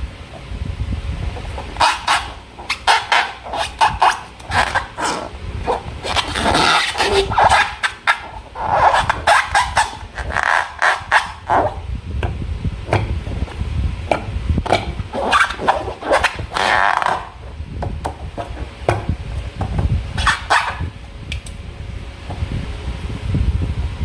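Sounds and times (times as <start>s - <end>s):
steady low rumble: 0.0s - 20.2s, 20.8s - 24.0s.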